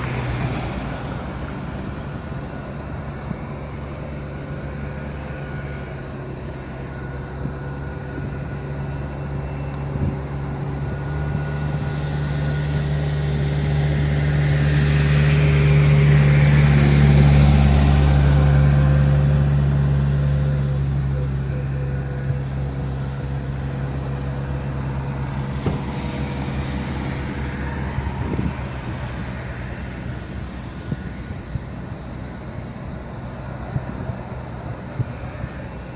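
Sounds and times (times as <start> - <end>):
jet plane passing by: 0.0 - 35.9.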